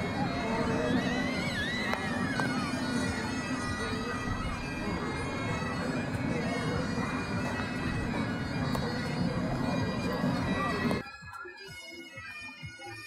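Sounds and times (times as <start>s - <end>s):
bagpipes playing: 0.0s - 13.0s.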